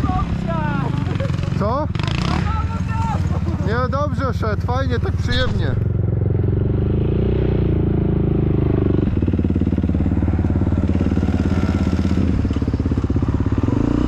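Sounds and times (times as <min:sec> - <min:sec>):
motorcycle and quad engines: 0:00.0 - 0:14.0.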